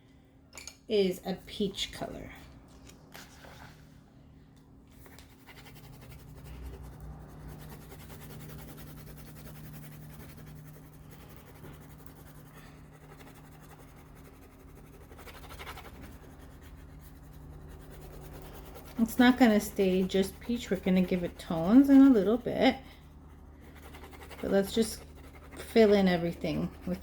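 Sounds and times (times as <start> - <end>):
crayon scratching on paper: 5.0 - 27.0.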